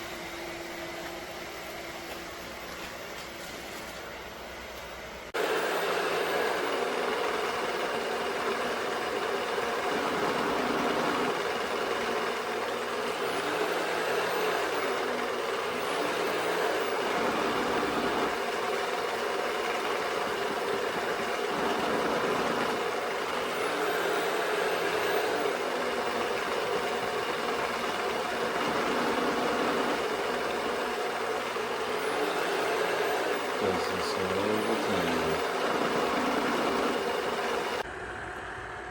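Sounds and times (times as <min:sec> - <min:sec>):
robot vacuum whirring: 0:05.4 - 0:37.8.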